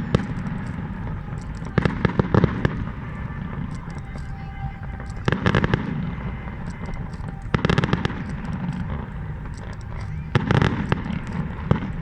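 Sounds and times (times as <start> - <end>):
low rumble of shells bursting: 0.0 - 12.0.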